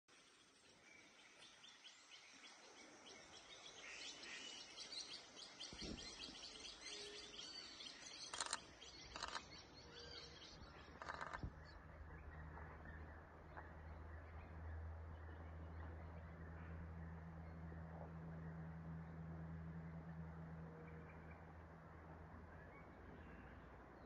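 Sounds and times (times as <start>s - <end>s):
faint birds chirping: 0.2s - 24.0s.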